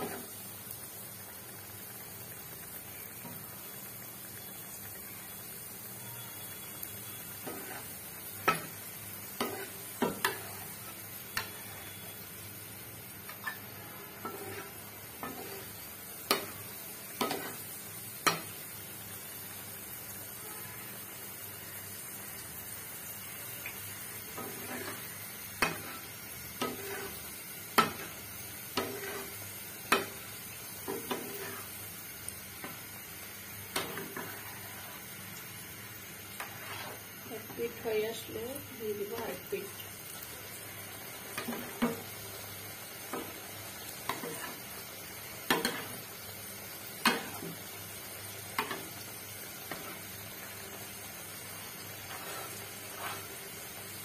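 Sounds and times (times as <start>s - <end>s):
bread sizzling in hot oil: 0.0s - 54.0s.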